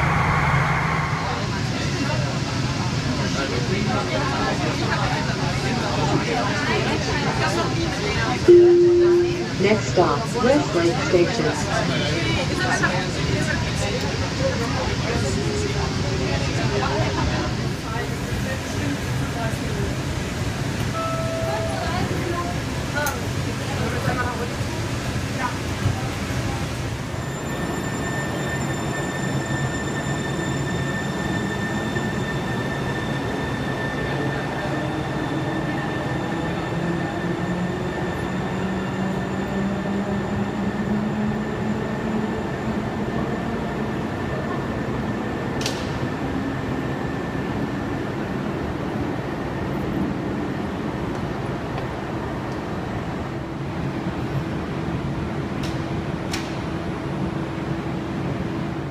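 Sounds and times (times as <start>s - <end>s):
train rumble and whine: 0.0s - 58.9s.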